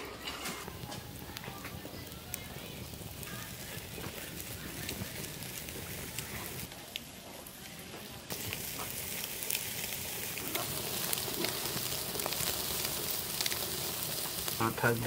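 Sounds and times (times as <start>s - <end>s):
fish sizzling over wood fire: 0.0s - 15.0s
fire crackles and pops: 0.2s - 15.0s.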